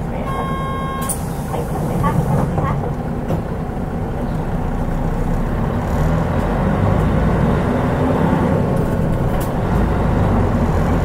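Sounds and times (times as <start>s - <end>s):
bus diesel engine running: 0.0s - 11.0s
road noise: 0.0s - 11.0s.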